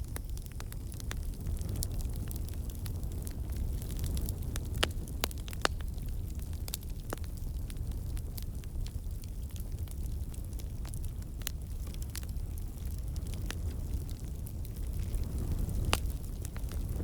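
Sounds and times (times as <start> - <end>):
burning wood crackling: 0.0 - 17.0
low rumble of flames: 0.0 - 17.0.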